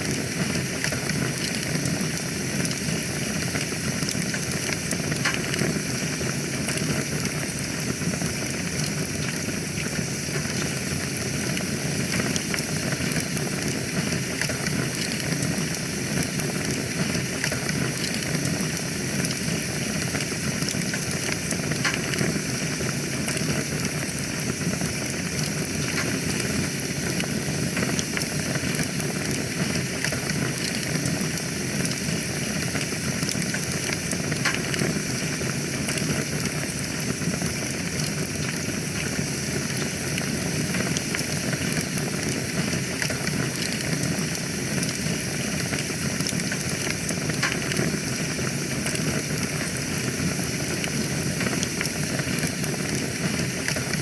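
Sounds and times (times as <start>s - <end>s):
wood fire burning: 0.0s - 54.0s.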